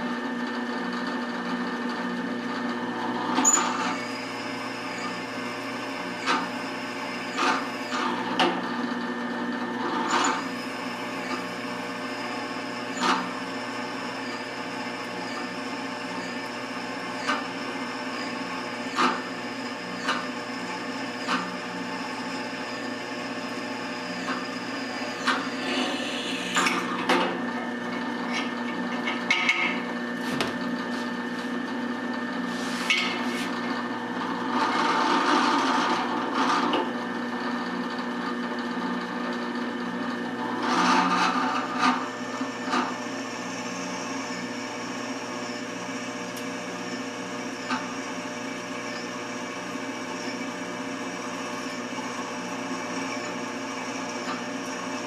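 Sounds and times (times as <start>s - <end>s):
drill press drilling metal: 0.1s - 30.1s, 31.6s - 55.0s.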